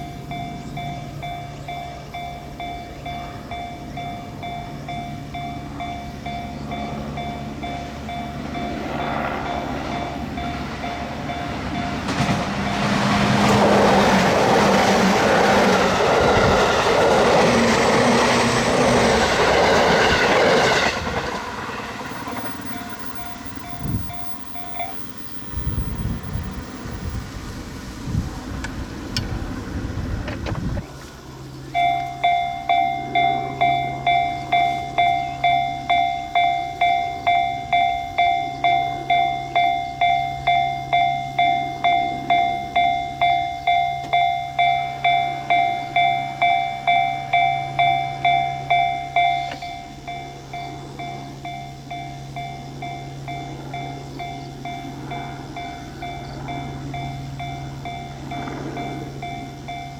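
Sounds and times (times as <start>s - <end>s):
level-crossing warning bell: 0.0s - 27.3s, 29.0s - 59.9s
steady low hum: 0.0s - 59.9s.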